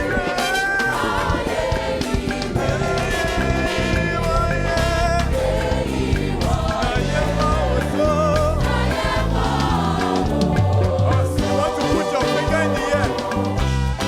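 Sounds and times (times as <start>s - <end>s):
band with bass and drums: 0.0s - 14.0s
gospel choir singing: 0.0s - 14.0s.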